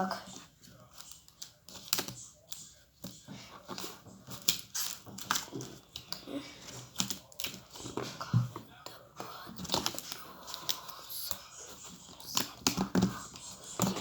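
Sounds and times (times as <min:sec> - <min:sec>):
hands clicking and tapping plasticine: 0:00.3 - 0:08.6, 0:09.2 - 0:14.0.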